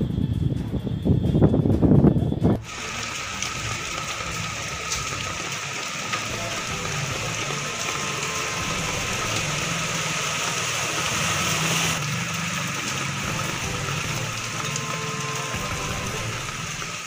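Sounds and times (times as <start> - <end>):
rain splashing into water: 2.6 - 17.0.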